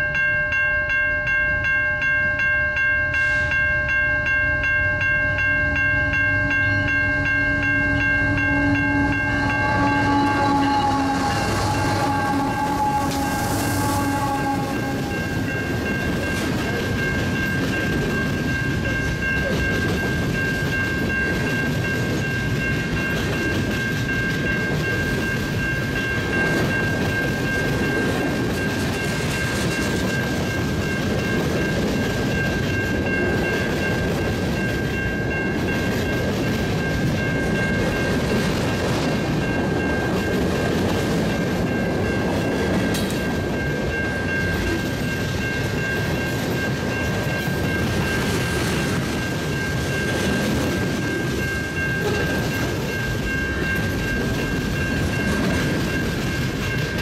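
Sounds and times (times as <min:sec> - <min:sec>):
crossing bell ringing: 0:00.0 - 0:57.0
diesel locomotive engines: 0:00.0 - 0:57.0
freight cars rumbling on rails: 0:05.4 - 0:57.0.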